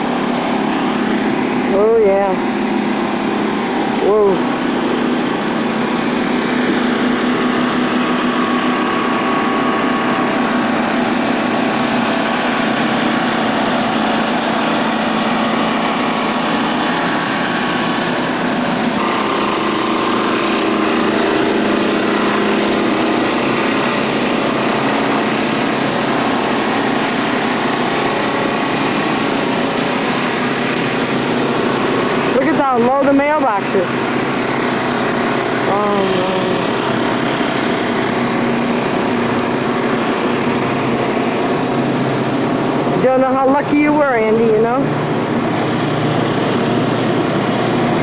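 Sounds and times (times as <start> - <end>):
small outboard motor running: 0.0 - 48.0.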